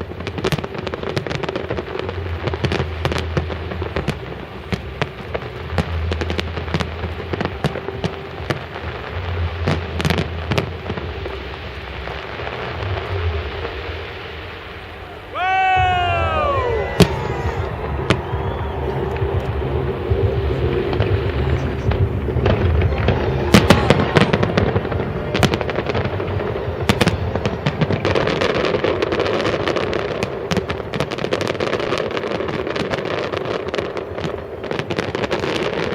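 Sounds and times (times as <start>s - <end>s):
firework bangs and crackles: 0.0s - 35.9s
continuous rumble: 1.4s - 15.3s, 16.1s - 31.2s.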